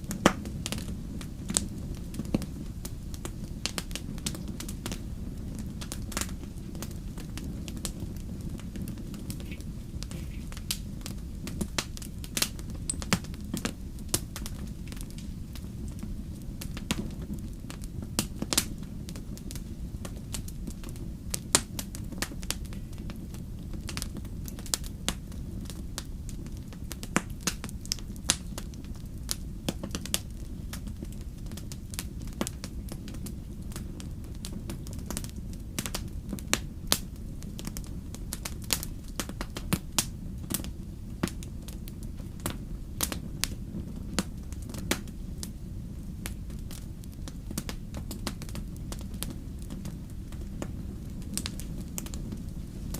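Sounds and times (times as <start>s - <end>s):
fire crackling and popping: 0.0s - 52.9s
steady low rumble: 0.0s - 52.9s.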